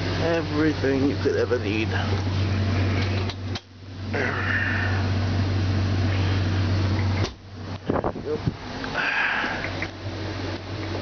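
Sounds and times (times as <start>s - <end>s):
ventilation fan hum: 0.0s - 11.0s.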